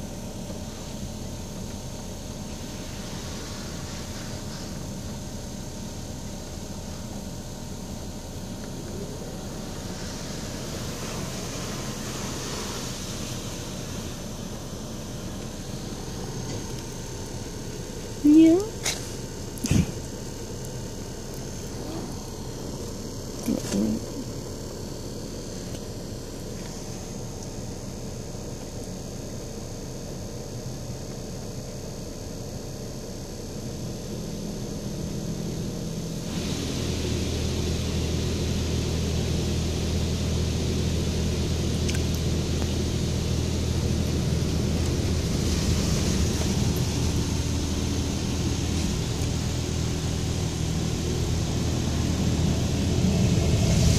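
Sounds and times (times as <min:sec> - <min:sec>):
car wash spraying water: 0:00.0 - 0:53.9.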